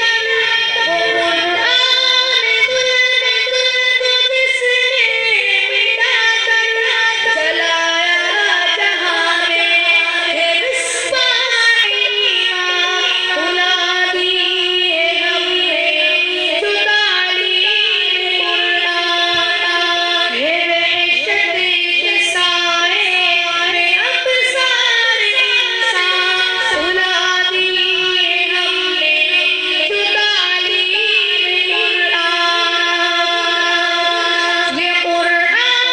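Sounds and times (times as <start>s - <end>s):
high voice singing: 0.0s - 35.9s.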